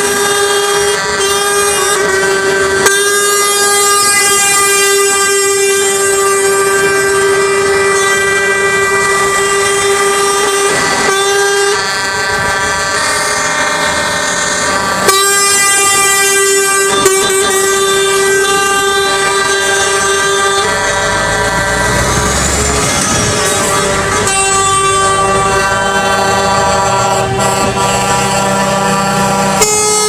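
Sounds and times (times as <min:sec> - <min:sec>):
truck air horn blasts: 0:00.0 - 0:30.0.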